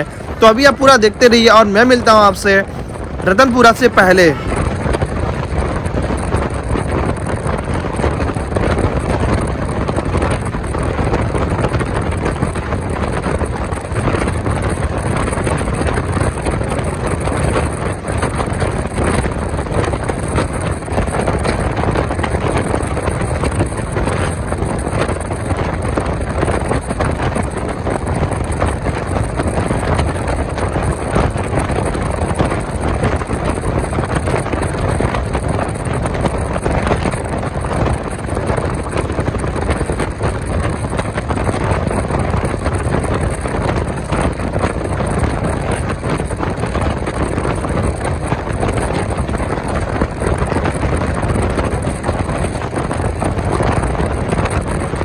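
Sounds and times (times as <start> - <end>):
train wheels rumbling on rails: 0.0 - 55.0
wind rushing over microphone: 0.0 - 55.0.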